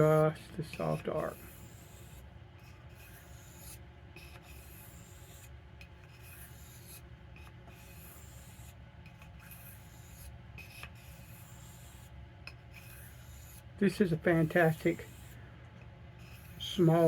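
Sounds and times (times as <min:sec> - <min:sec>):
knife scraping on whetstone: 0:00.0 - 0:15.4, 0:16.2 - 0:17.0.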